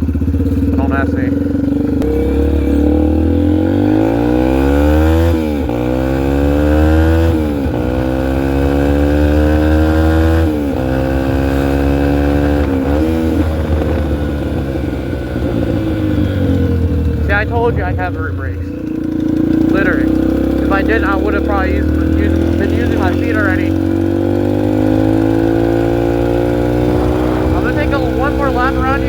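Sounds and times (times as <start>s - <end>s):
motorcycle engine shifting gears: 0.0s - 29.0s.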